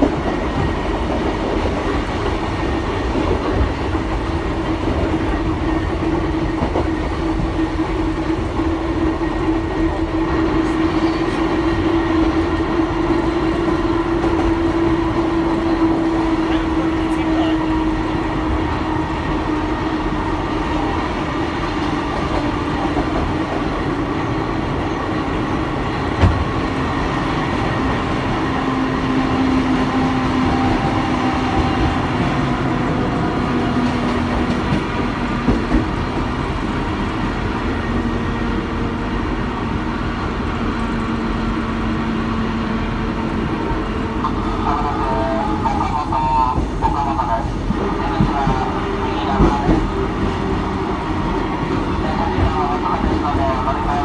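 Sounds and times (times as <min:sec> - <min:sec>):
train motor hum: 0:00.0 - 0:54.0
train wheels rumbling on rails: 0:00.0 - 0:54.0.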